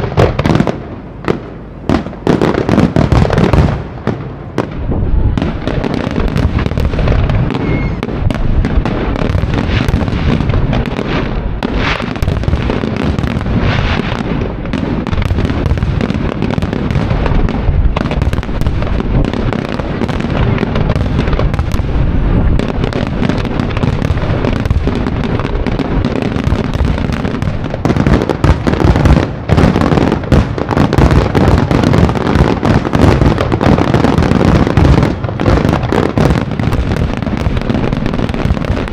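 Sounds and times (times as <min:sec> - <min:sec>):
fireworks bursting and crackling: 0:00.0 - 0:38.9.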